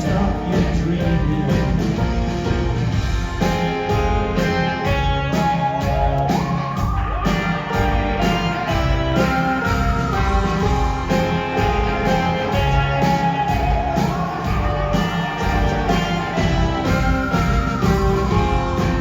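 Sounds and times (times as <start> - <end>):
live rock band playing: 0.0 - 19.0
lead guitar line sliding up: 2.0 - 19.0.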